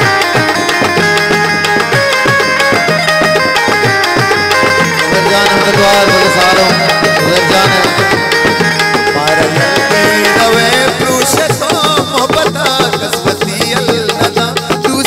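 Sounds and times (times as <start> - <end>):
melodic instrument line: 0.0 - 15.0
tabla playing a rhythm: 0.0 - 15.0.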